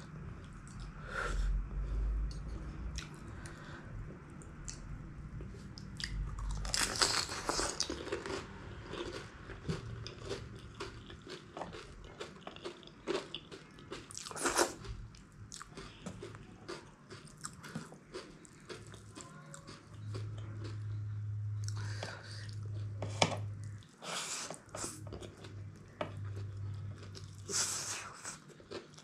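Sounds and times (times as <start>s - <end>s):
chewing and crunching: 5.4s - 29.0s.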